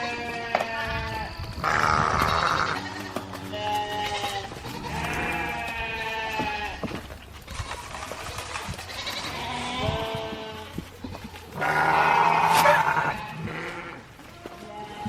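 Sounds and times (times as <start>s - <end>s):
sheep bleating: 0.0s - 6.9s, 8.8s - 15.0s.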